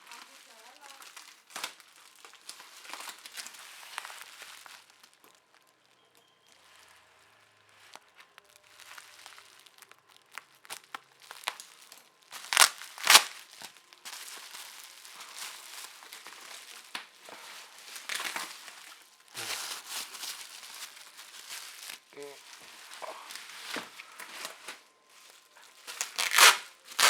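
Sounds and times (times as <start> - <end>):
packaging ripping: 0.0 - 6.0, 7.8 - 22.2, 23.3 - 27.0
packaging crinkling and rustling: 0.0 - 27.0.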